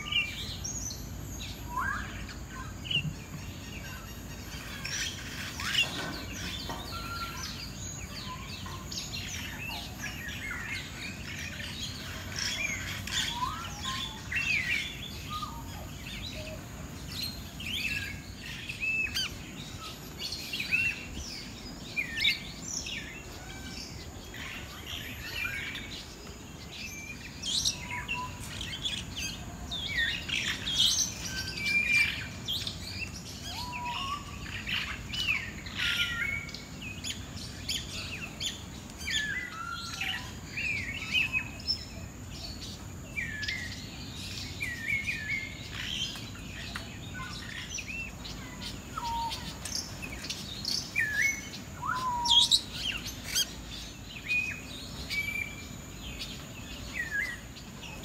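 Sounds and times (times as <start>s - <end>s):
birds chirping and whistling: 0.0s - 58.0s.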